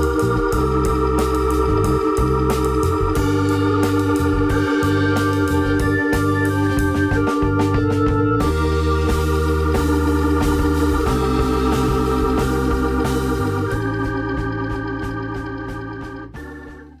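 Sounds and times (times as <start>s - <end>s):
organ-like background music with beat: 0.0s - 17.0s.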